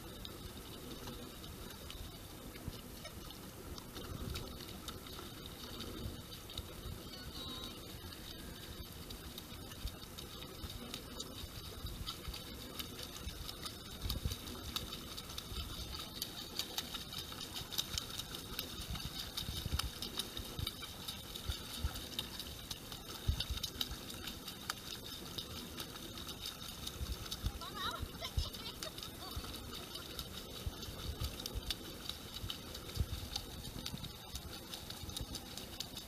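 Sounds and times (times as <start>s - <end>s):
water lapping around boats: 0.0s - 36.0s.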